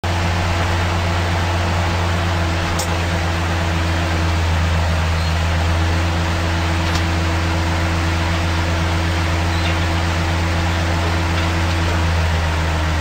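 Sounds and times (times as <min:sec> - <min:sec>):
truck engine drone: 0:00.0 - 0:13.0.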